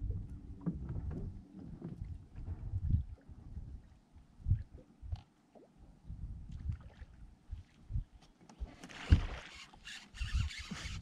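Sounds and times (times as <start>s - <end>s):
wind buffeting microphone: 0.0s - 5.2s, 6.0s - 11.0s.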